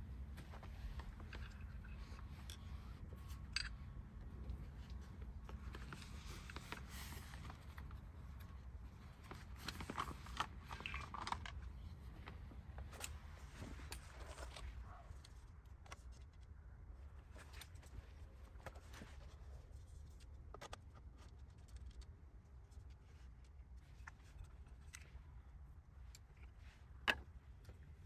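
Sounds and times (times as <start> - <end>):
rustling and light clicks: 0.2 - 28.0.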